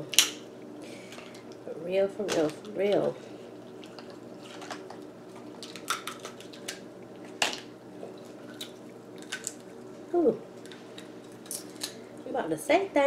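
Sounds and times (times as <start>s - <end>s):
lobster shell cracking: 0.0s - 1.6s, 2.2s - 9.8s, 10.5s - 12.1s
steady low hum: 0.0s - 13.0s.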